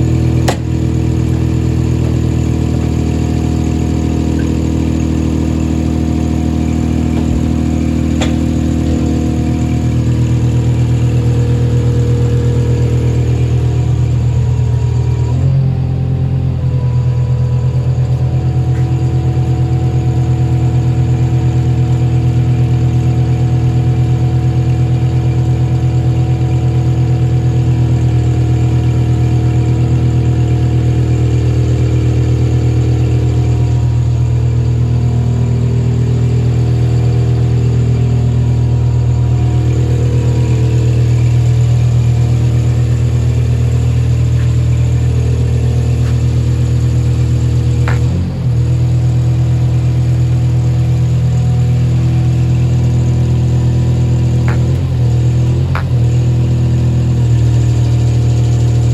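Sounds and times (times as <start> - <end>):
heavy equipment engine idling: 0.0 - 58.9.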